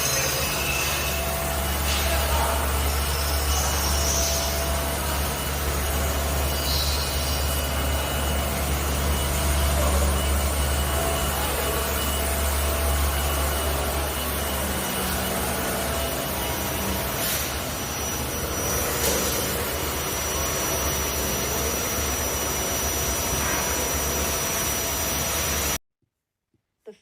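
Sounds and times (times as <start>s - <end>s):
motor mechanical drone: 0.0s - 25.8s
thin high whine: 0.0s - 25.8s.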